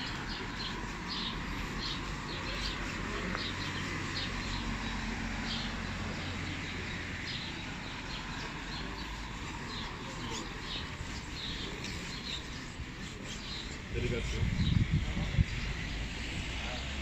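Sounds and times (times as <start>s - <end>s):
birds chirping: 0.0s - 17.0s
city traffic hum: 0.0s - 17.0s.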